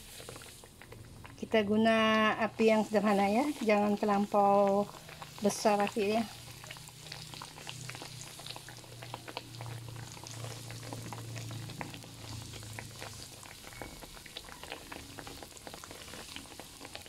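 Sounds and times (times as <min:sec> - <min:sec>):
dough deep-frying in oil: 0:00.0 - 0:17.0.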